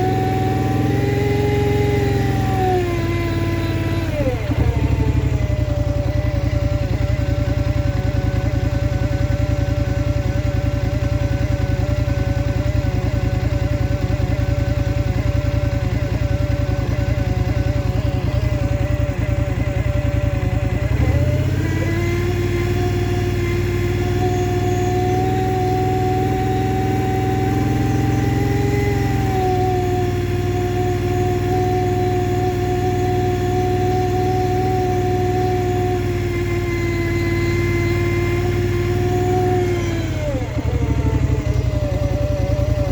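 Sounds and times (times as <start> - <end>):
engine idling and revving: 0.0 - 42.9.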